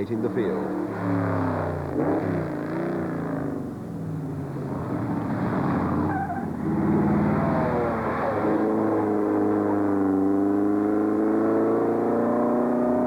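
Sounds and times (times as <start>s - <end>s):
car engine under load: 0.0s - 13.0s.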